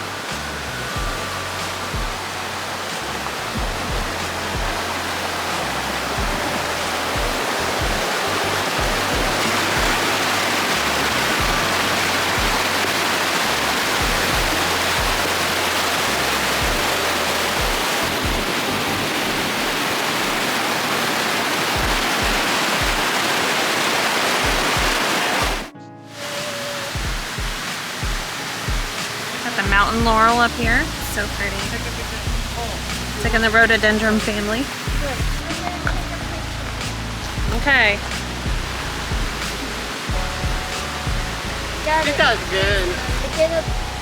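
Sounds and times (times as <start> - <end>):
music with bass and beat: 0.0 - 19.0, 27.0 - 44.0
waterfall rushing: 0.0 - 44.0.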